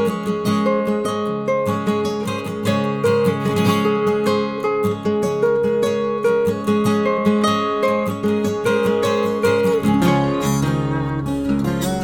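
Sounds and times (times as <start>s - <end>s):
acoustic guitar plucked and strummed: 0.0s - 12.0s.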